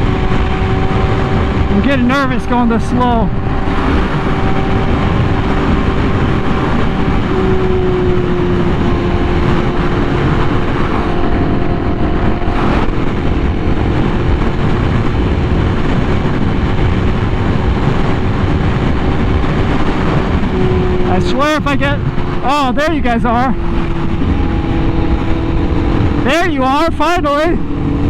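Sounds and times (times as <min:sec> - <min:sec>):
motorcycle engine cruising: 0:00.0 - 0:28.0
wind rush: 0:00.0 - 0:28.0.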